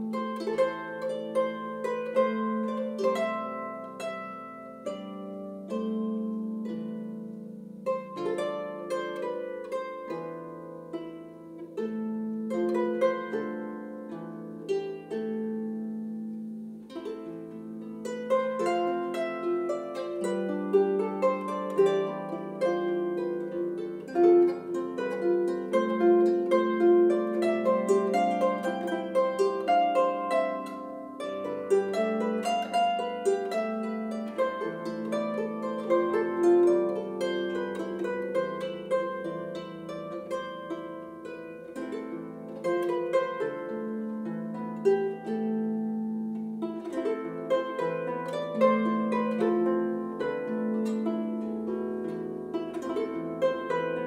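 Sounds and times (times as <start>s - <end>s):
harp melody: 0.0s - 54.0s.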